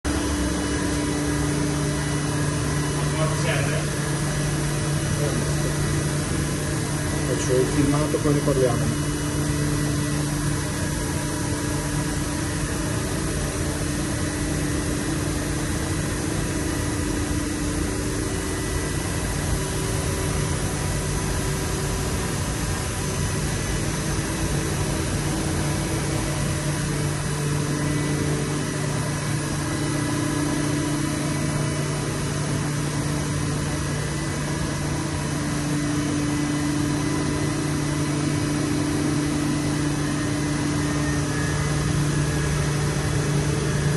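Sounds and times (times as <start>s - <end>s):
lathe mechanical hum: 0.1s - 43.9s.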